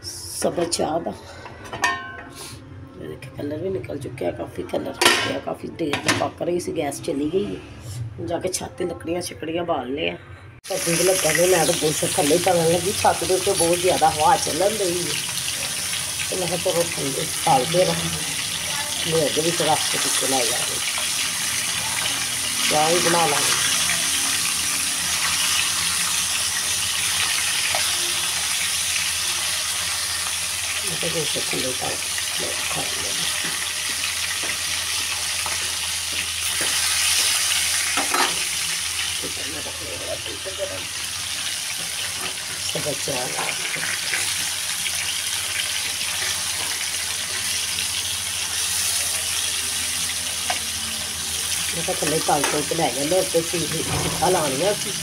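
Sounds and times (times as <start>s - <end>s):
chicken sizzling in hot oil: 10.6s - 55.0s.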